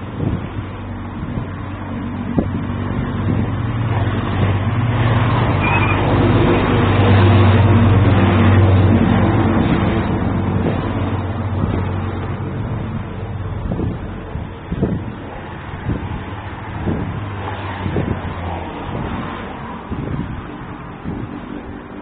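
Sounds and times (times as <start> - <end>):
noisy haze: 0.0 - 22.0
vehicle engine humming: 0.0 - 22.0.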